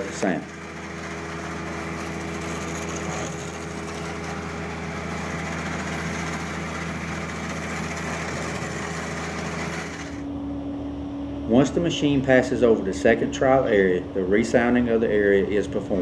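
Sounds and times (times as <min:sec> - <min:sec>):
machine engine humming: 0:00.0 - 0:16.0.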